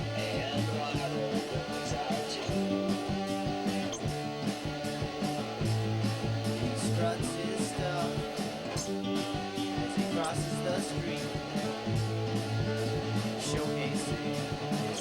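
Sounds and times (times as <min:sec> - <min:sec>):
bass guitar: 0:00.0 - 0:15.0
electric guitar: 0:00.0 - 0:15.0
steady drum beat: 0:00.0 - 0:15.0.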